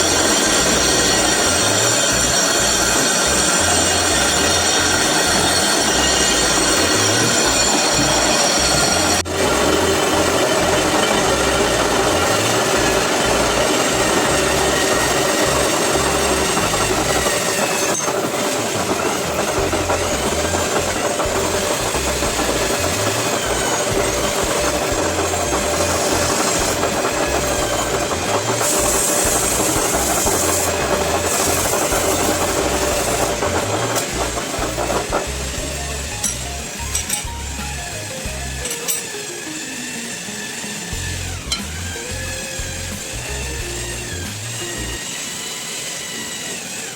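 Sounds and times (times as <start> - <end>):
lathe machining brake disc: 0.0 - 46.9.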